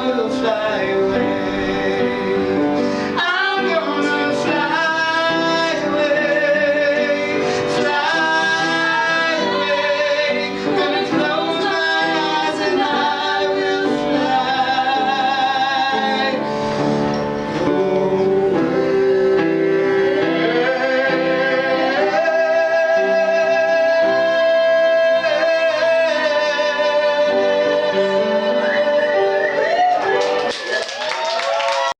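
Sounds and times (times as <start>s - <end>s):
person singing with wavering notes: 0.0s - 16.5s, 17.1s - 29.6s
instrumental accompaniment: 0.0s - 31.6s.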